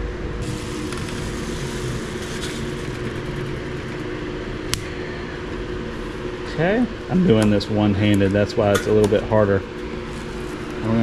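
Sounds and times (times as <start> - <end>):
electric fan humming: 0.0 - 11.0.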